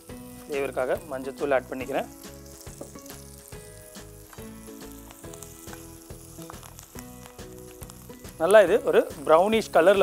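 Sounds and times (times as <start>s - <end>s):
onions sizzling in hot oil: 0.0s - 10.0s
soft background music: 0.0s - 10.0s.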